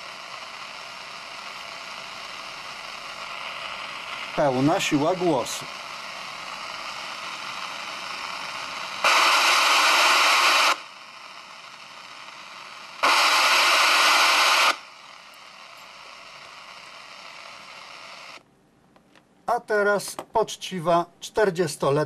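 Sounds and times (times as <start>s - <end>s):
radio static hiss: 0.0s - 18.4s.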